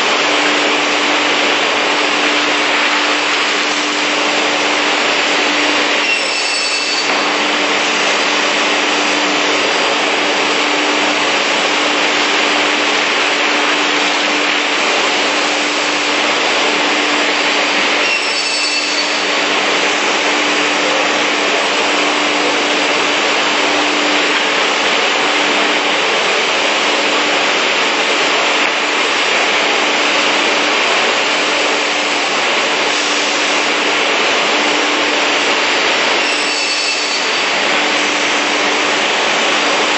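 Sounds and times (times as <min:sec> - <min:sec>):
saw running with rushing noise: 0:00.0 - 0:39.9.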